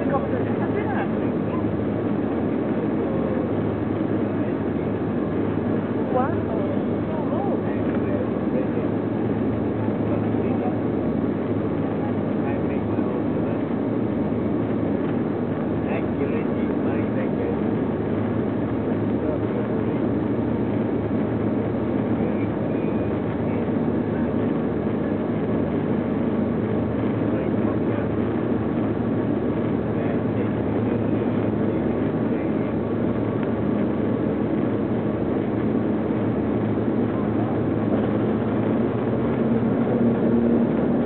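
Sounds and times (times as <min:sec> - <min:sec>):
turboprop engines droning in cabin: 0:00.0 - 0:41.0.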